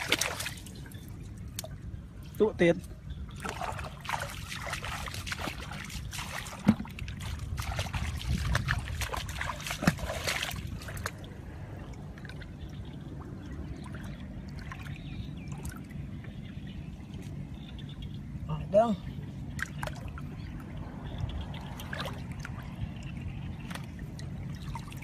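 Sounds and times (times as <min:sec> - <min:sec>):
muddy water splashing: 0:00.0 - 0:25.0.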